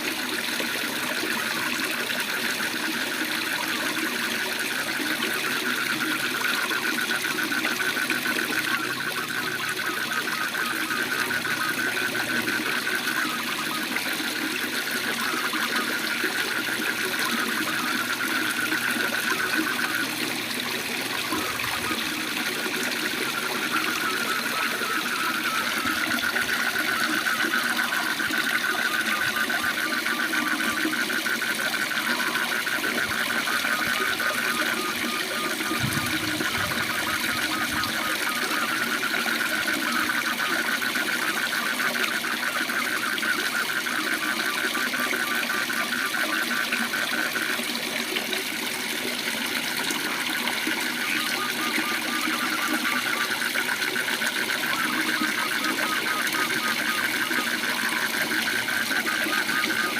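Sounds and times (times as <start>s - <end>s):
frog trilling: 0.8s - 59.9s.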